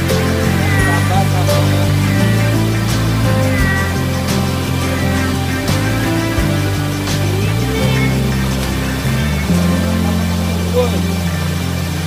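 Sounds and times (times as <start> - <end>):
electronic music with steady beat: 0.0 - 11.8.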